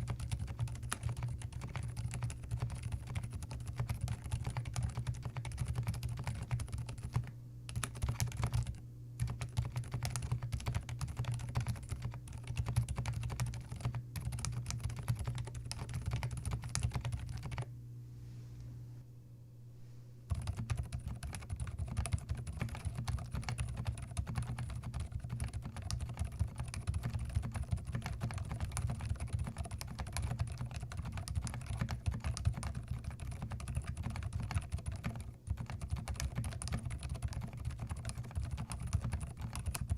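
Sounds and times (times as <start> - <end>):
mechanical keyboard typing: 0.0 - 17.7, 20.3 - 39.9.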